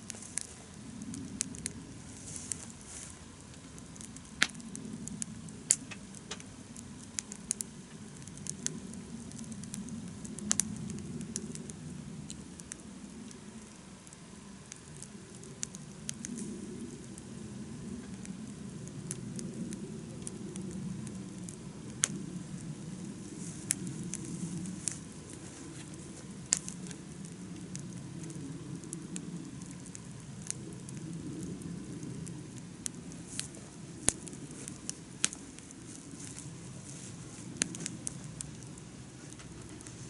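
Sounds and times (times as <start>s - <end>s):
campfire crackling and popping: 0.0s - 40.0s
low rush of flame: 0.0s - 40.0s.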